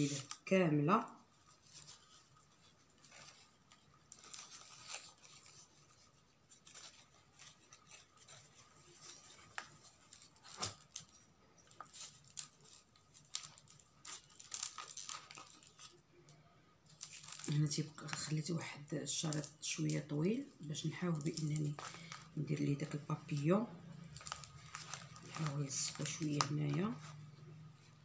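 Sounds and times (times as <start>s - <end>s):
ribbon rustling and crinkling: 0.0s - 28.0s.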